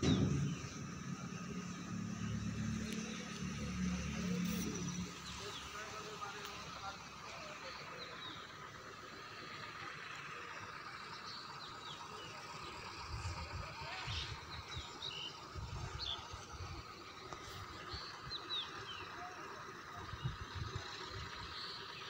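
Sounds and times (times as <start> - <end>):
low rumbles: 0.0 - 18.3
birds chirping: 0.0 - 22.0.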